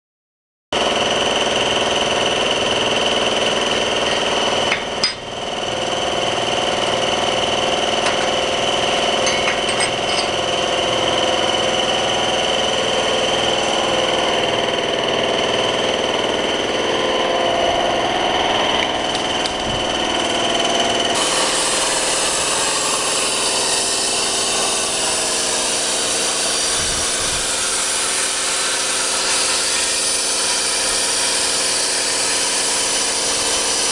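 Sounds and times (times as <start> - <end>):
cutting machine whining through steel: 0.8 - 33.9.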